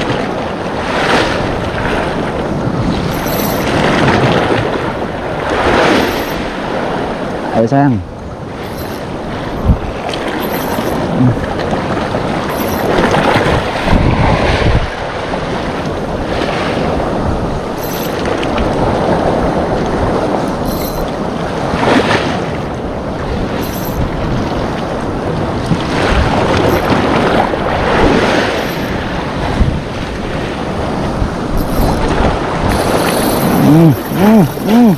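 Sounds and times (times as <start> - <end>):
sea waves washing against shore: 0.0 - 34.9
wind buffeting microphone: 0.0 - 34.9.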